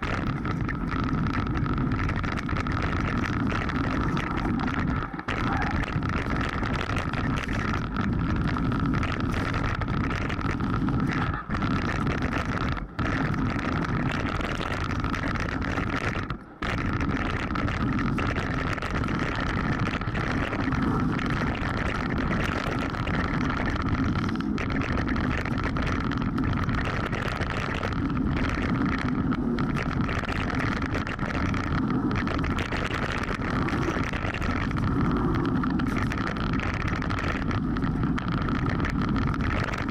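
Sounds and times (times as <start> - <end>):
bike tyres rattling over stones: 0.0 - 39.9
steady high hum: 0.0 - 39.9
wind on microphone: 0.0 - 39.9.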